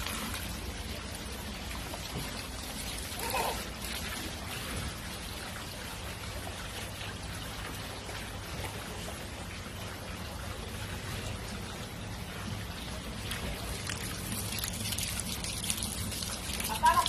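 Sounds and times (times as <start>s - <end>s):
water running and pouring: 0.0s - 17.0s.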